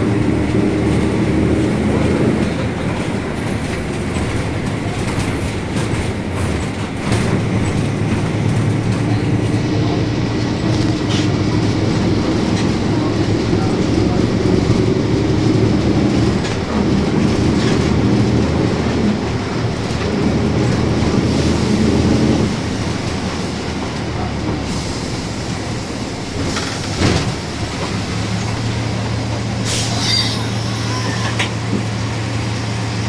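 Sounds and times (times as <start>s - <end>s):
bus differential whining: 0.0s - 33.0s.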